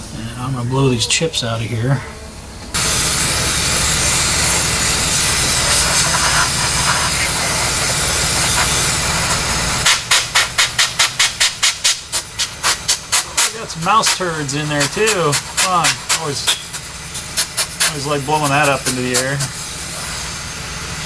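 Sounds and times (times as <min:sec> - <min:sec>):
compressed air blow gun hissing: 0:02.8 - 0:21.0.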